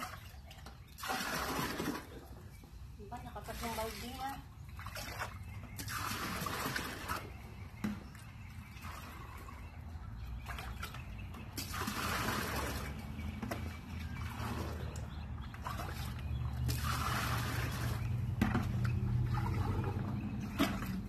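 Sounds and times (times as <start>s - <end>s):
water pouring and sloshing: 0.0s - 21.0s.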